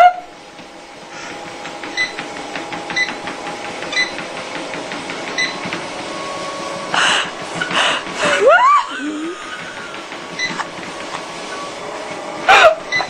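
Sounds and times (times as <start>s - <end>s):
treadmill motor hum: 0.0s - 13.0s.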